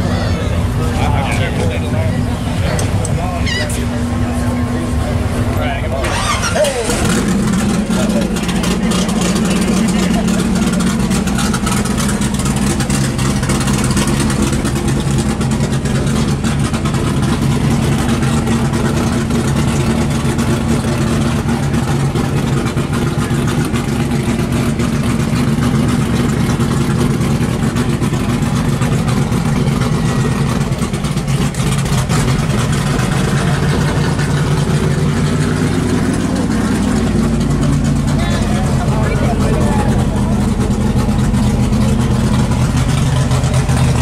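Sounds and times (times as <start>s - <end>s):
car engine idling loudly: 0.0s - 44.0s.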